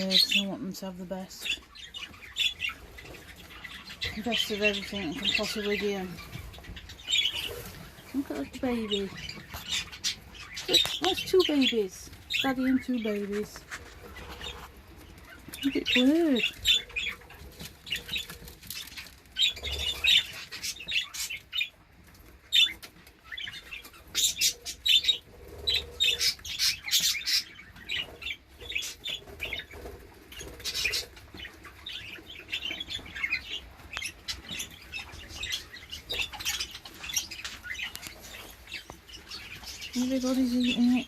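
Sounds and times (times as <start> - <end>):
budgerigars chirping and chattering: 0.0 - 41.0.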